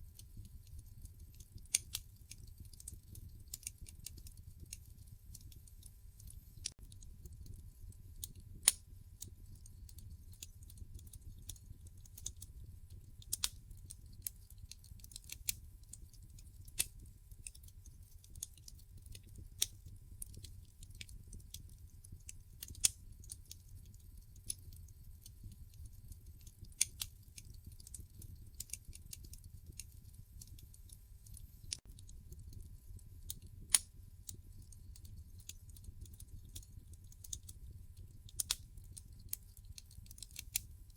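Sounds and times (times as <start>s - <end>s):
low rumble of burning logs: 0.0s - 40.9s
wood fire crackling and popping: 0.0s - 40.9s.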